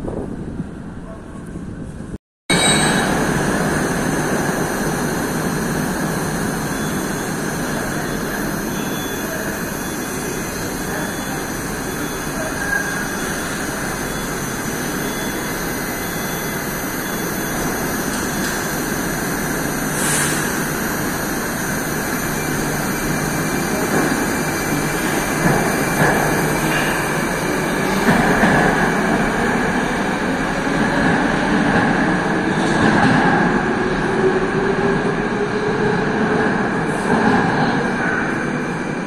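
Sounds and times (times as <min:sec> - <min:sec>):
train and station hum: 0:00.0 - 0:39.0.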